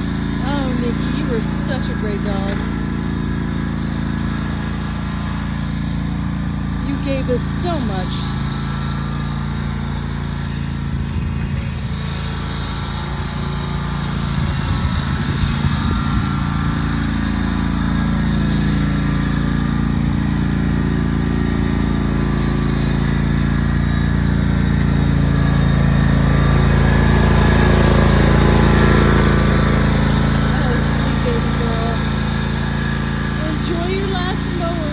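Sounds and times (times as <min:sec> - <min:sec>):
riding lawn mower engine: 0:00.0 - 0:34.9.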